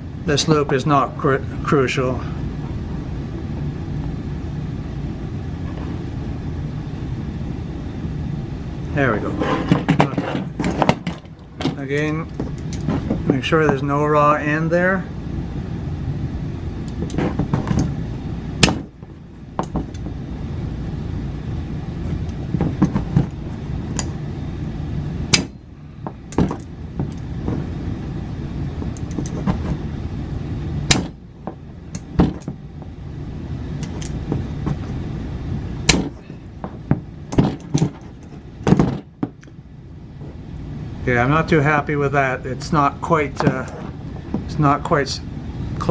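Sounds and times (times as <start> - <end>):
low hum: 0.0 - 45.9.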